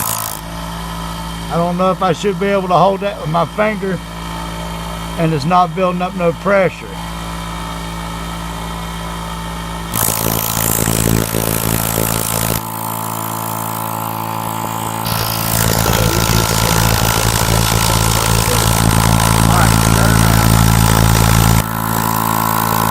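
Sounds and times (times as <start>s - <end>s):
air compressor motor hum: 0.0s - 22.9s.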